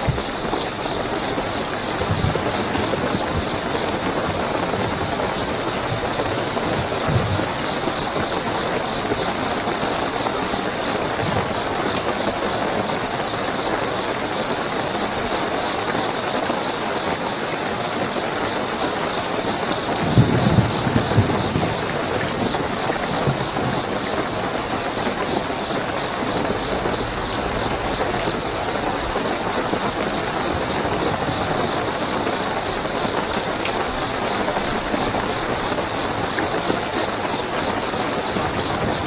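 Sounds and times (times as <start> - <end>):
cricket trill: 0.0 - 39.0
heavy rainfall: 0.0 - 39.0
thunder rumble: 0.0 - 39.0.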